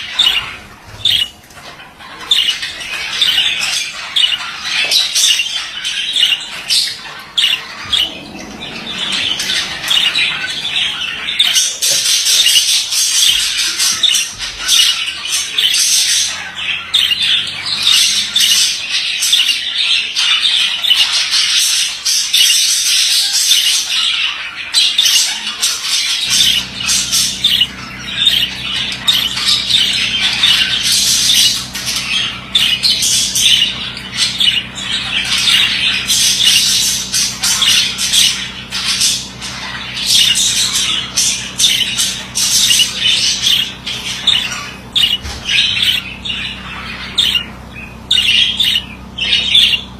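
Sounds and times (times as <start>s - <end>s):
budgerigar warbling and chattering: 0.0s - 49.9s
steady low hum: 0.0s - 49.9s.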